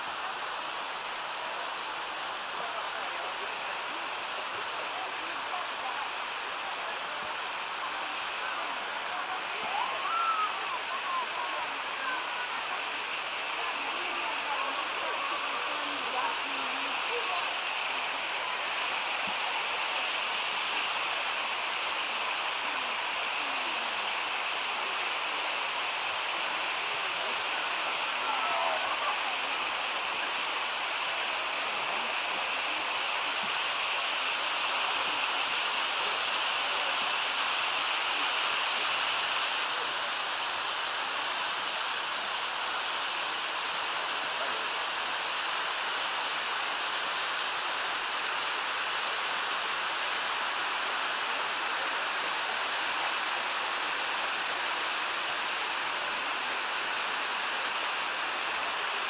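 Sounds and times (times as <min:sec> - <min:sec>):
water rushing down waterfalls: 0:00.0 - 0:59.0.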